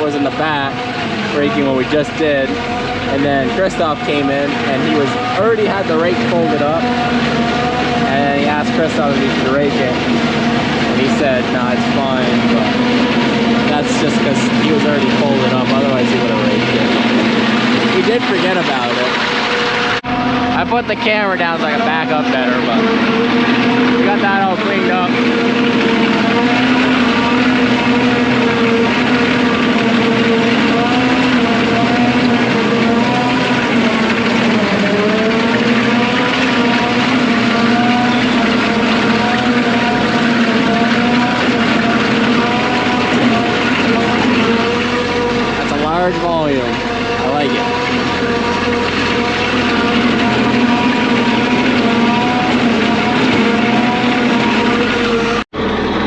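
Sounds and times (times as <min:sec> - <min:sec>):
constant rushing noise: 0:00.0 - 0:56.0
farm machine engine humming: 0:00.0 - 0:56.0.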